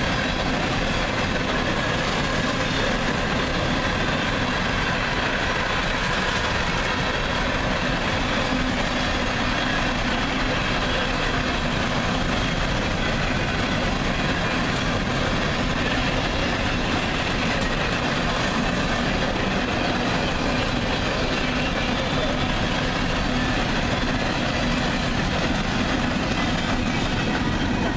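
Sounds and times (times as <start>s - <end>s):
train wheels rolling on rails: 0.0s - 27.9s.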